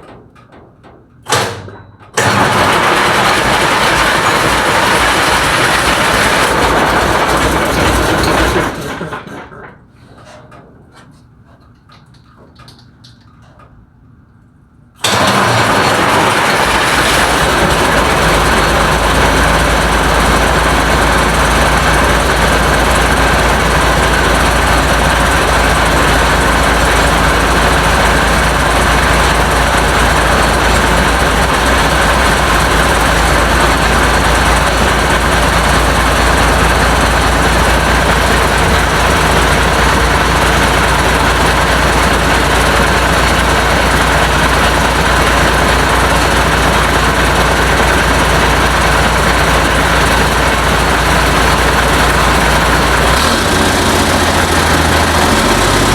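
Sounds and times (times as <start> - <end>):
diesel engine clattering: 0.0 - 55.9.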